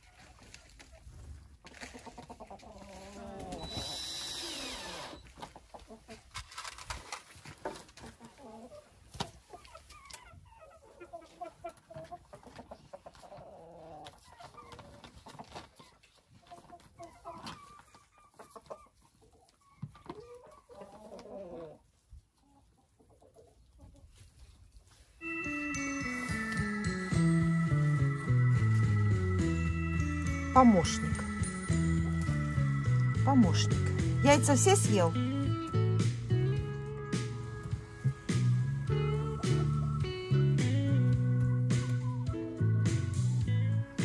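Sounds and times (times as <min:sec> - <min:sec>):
chickens clucking: 0:00.0 - 0:03.9, 0:05.1 - 0:06.4, 0:07.6 - 0:24.9, 0:28.4 - 0:40.2, 0:40.9 - 0:44.0.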